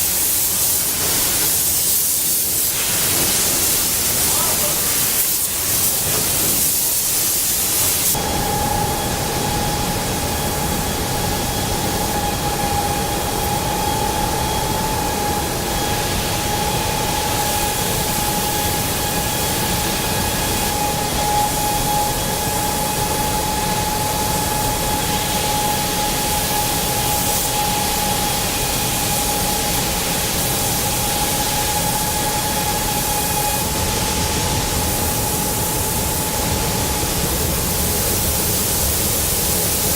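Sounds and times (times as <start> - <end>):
machinery hiss: 0.0 - 39.9
high whine: 7.9 - 39.9.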